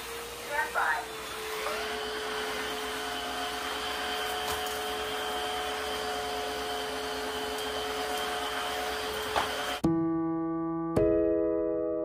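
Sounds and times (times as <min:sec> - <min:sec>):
vacuum mop motor hum: 0:00.0 - 0:09.8.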